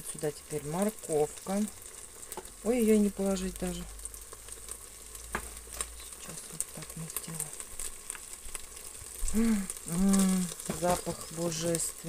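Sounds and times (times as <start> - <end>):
onions sizzling: 0.0 - 12.0.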